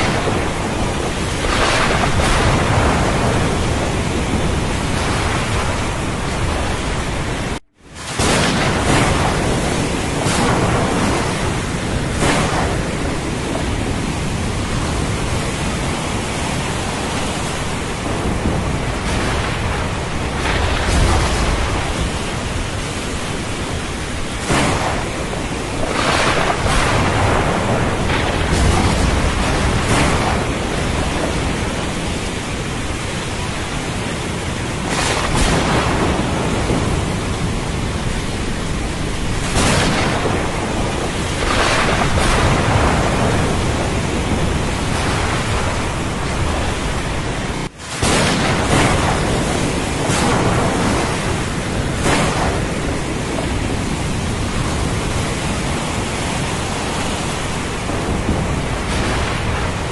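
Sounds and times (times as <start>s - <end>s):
low thunder rumbles: 0.0s - 59.9s
waves surging: 0.0s - 59.9s.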